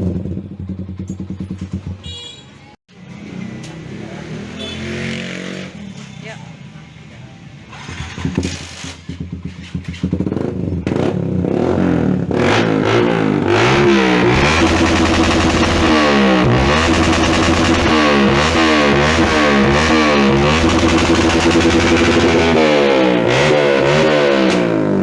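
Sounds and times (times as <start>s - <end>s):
motorcycle engine revving: 0.0s - 2.2s, 3.0s - 5.8s, 7.7s - 25.0s.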